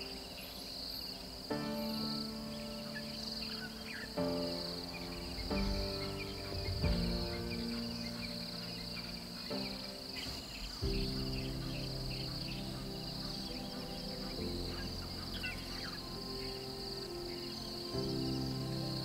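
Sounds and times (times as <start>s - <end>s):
high insect chorus: 0.0s - 19.0s
music of held chords: 0.0s - 19.0s.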